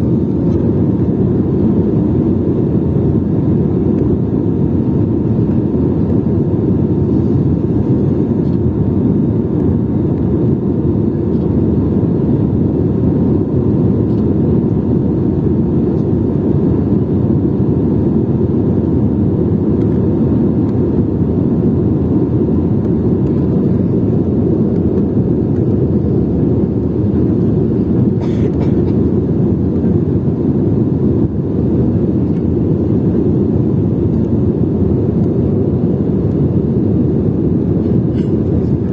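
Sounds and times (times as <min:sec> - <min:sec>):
faint steady whine: 0:00.0 - 0:38.9
jet engine roar: 0:00.0 - 0:38.9.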